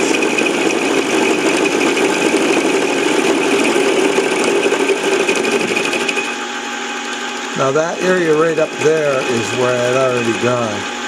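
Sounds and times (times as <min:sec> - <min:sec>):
mini lathe cutter rattling: 0:00.0 - 0:06.4, 0:07.0 - 0:10.9.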